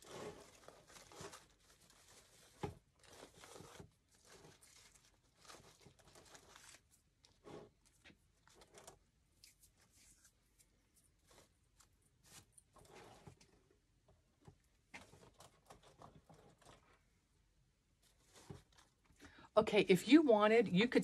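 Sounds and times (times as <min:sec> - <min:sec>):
rustling and crackling stems: 0:00.0 - 0:17.1, 0:17.9 - 0:19.5.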